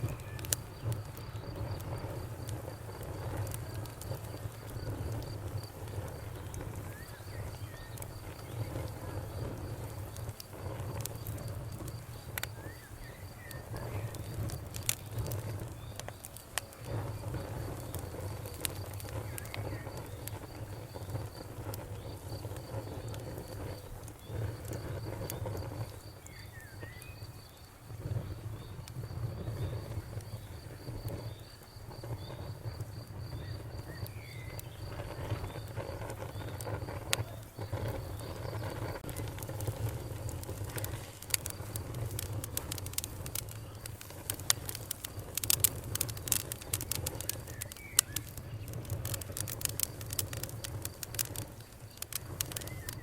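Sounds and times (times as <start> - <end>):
campfire crackling and popping: 0.0 - 53.0
insect chirping: 0.0 - 53.0.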